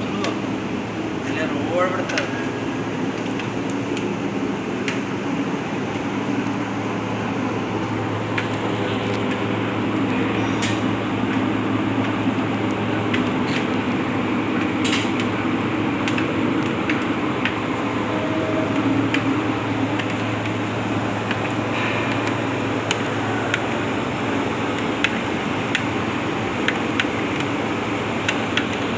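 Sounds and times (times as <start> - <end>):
lathe motor humming: 0.0 - 28.9.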